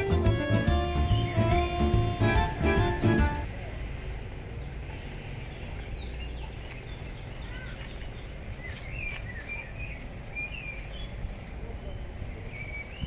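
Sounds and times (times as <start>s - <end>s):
small birds chirping: 0.0s - 3.4s, 4.4s - 13.0s.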